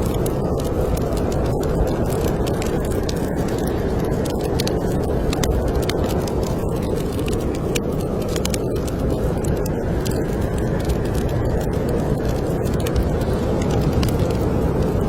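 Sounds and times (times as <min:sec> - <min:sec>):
snowstorm wind rushing: 0:00.0 - 0:15.0
wood fire crackling: 0:00.0 - 0:15.0.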